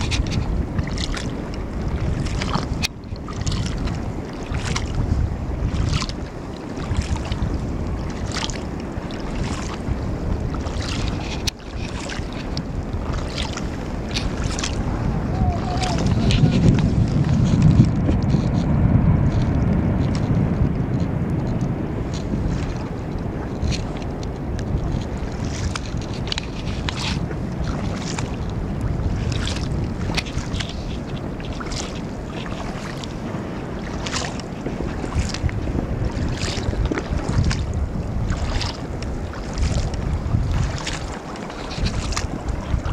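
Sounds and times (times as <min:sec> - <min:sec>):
water splashing against boat hull: 0:00.0 - 0:42.9
wind buffeting microphone: 0:00.0 - 0:42.9.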